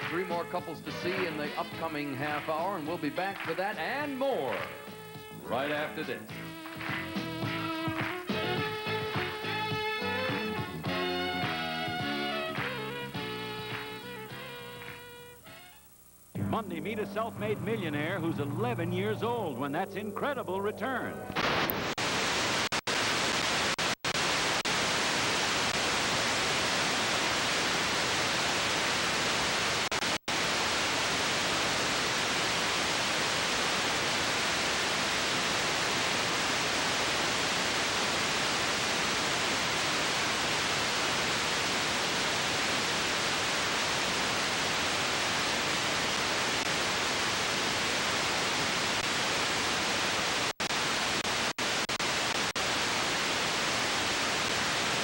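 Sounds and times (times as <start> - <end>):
video static hiss: 0.0 - 55.0.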